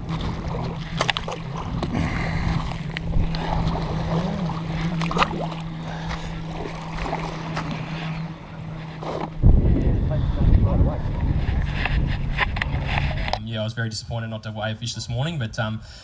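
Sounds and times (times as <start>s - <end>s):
water noise: 0.0s - 15.3s
boat engine humming: 0.0s - 16.0s
wind: 0.0s - 16.0s.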